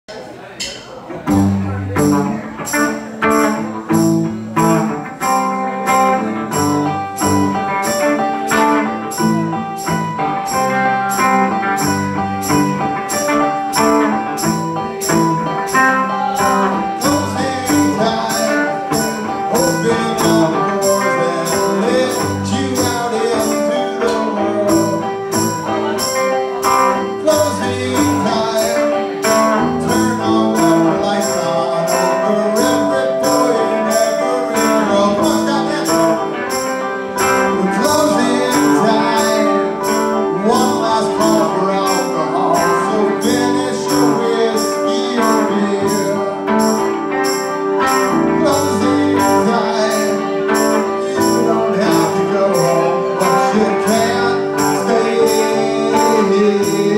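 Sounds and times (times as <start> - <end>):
live rock band playing: 1.1 - 56.9.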